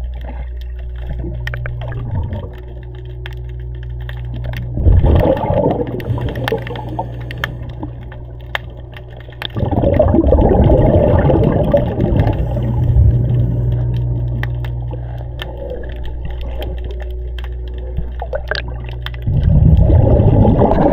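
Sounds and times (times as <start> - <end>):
diver's bubbles gurgling underwater: 0.0 - 20.9
steady low hum: 0.0 - 20.9.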